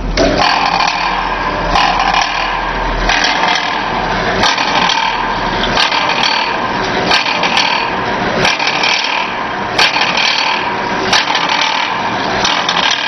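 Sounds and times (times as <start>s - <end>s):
packaging machine rattle and rasp: 0.2s - 13.0s
sharp machine clicks: 0.2s - 13.0s.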